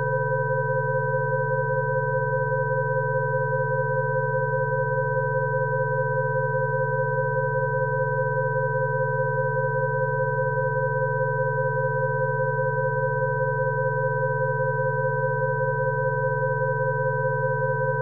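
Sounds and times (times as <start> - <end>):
steady electronic sine tones: 0.0 - 18.0.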